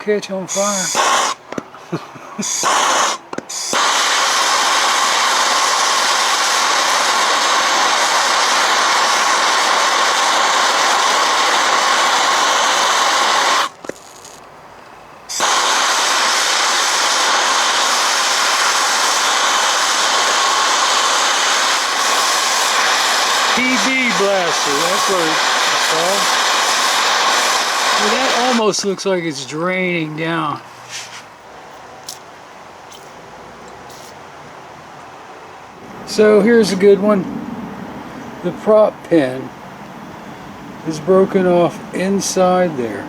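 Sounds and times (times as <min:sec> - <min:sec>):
heating torch hissing: 0:00.5 - 0:01.5, 0:02.4 - 0:14.4, 0:15.3 - 0:31.4, 0:35.8 - 0:43.0.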